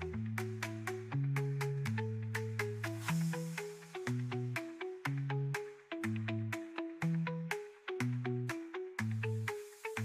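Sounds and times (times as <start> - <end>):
moving bass line: 0.0 - 8.5.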